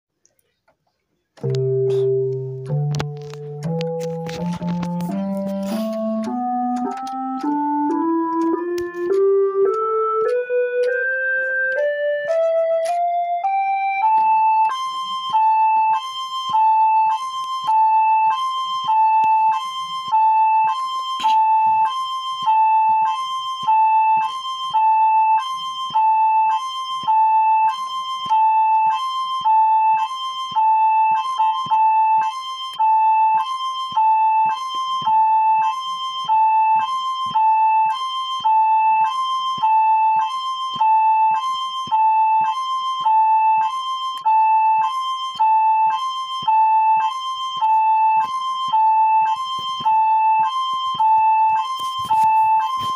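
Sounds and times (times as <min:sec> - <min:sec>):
electronic hi-lo siren: 0:01.4 - 0:52.9.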